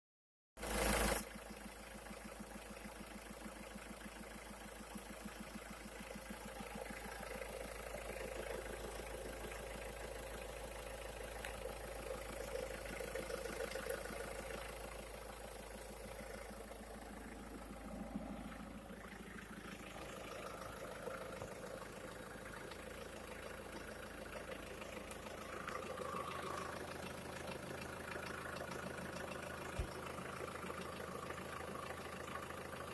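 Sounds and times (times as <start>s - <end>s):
diesel engine idling with knock: 0.6s - 32.9s.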